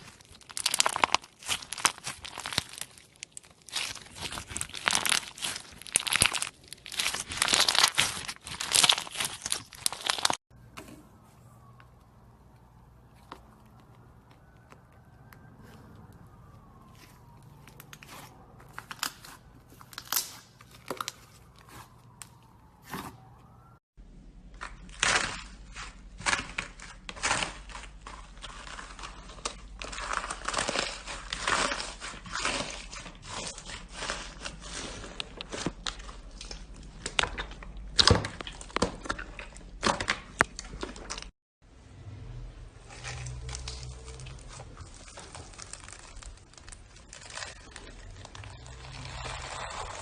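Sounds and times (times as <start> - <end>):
slime crackling and popping: 0.0 - 10.4, 16.6 - 23.0, 24.5 - 41.3, 42.9 - 50.0.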